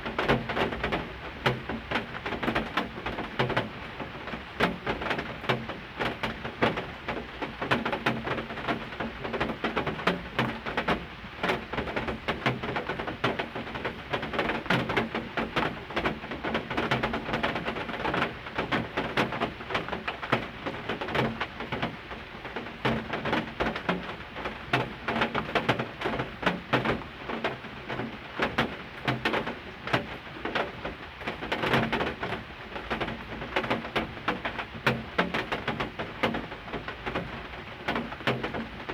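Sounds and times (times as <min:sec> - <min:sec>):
heavy rain tapping on hard surface: 0:00.0 - 0:38.9.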